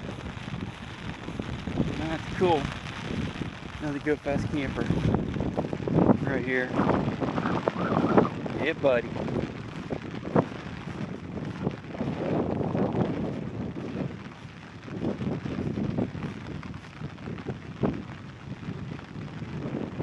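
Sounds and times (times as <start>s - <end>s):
rain hitting an umbrella: 0.0s - 20.0s
wind buffeting microphone: 0.0s - 20.0s.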